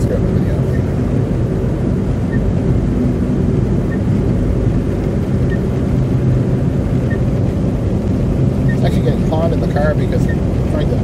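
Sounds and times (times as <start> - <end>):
car driving on slushy road: 0.0 - 11.0.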